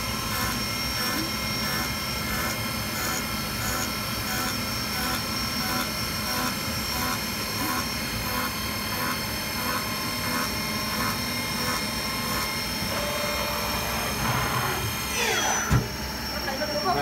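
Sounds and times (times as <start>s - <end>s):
milling machine whine: 0.0s - 17.0s.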